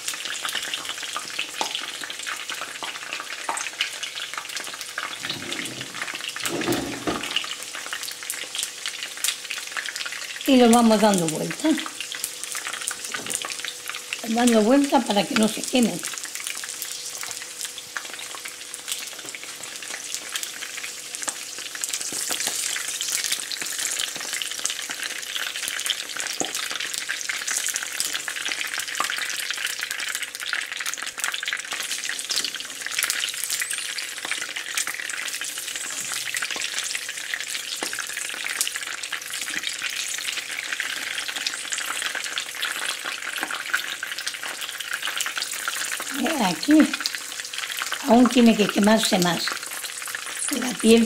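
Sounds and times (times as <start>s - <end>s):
peppers sizzling in oil: 0.0s - 51.0s.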